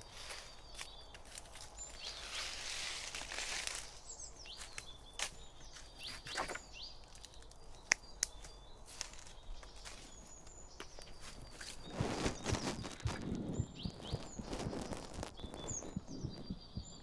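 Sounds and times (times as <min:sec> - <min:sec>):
leaves and sticks rustling: 0:00.0 - 0:16.9
small birds chirping: 0:00.0 - 0:17.0.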